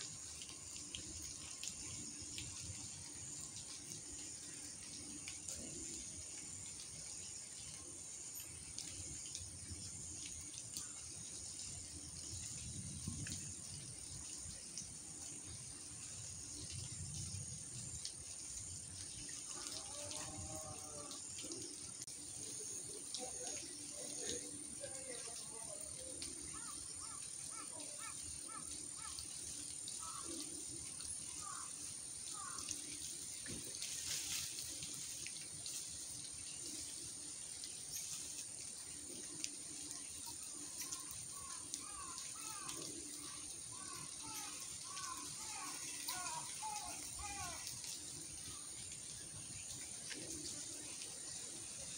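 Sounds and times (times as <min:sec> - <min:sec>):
high thin insect tone: 0:00.0 - 0:51.9
water-like noise: 0:00.0 - 0:51.9.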